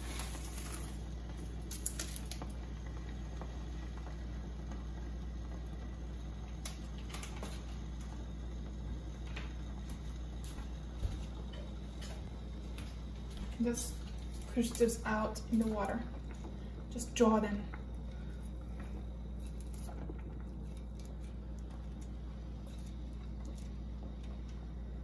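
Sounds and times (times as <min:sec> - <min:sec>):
low hum: 0:00.0 - 0:25.0
water bubbling in a saucepan: 0:00.0 - 0:25.0.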